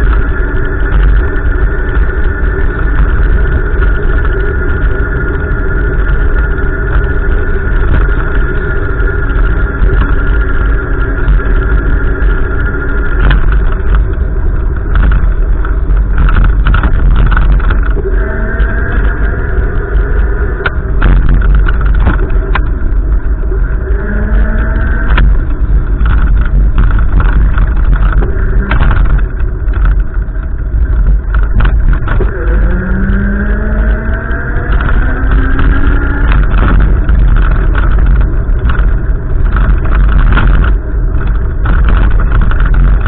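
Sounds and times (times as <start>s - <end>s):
gusty wind on microphone: 0.0s - 43.0s.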